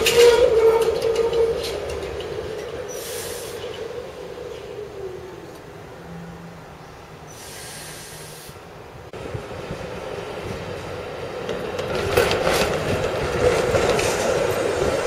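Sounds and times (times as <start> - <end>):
harsh wheel and track noise: 0.0 - 6.8, 8.5 - 15.0
streetcar wheels on rails: 0.0 - 15.0.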